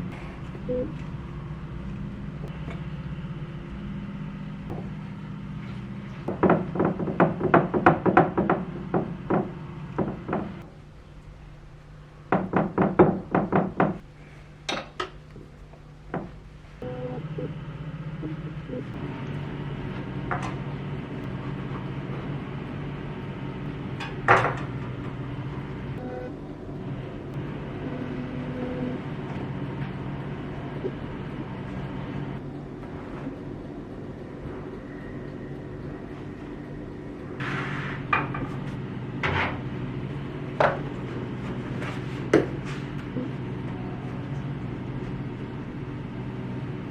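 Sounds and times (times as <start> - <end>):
low mechanical hum: 0.0 - 46.9.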